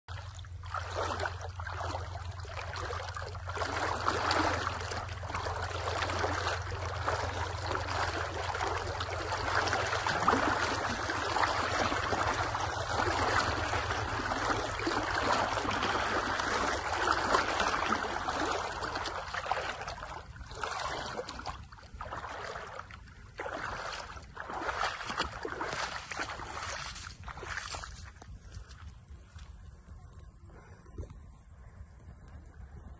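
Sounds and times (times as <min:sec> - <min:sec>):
river water rushing and splashing: 0:00.1 - 0:28.0.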